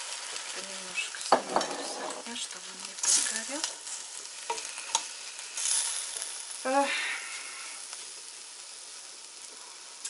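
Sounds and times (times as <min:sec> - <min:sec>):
brine sizzling in a wok: 0:00.0 - 0:10.0.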